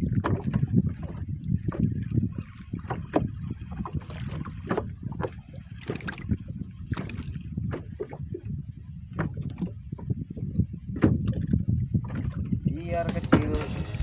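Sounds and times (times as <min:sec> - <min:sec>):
water against a boat: 0:00.0 - 0:14.0
wind on microphone: 0:00.0 - 0:14.0.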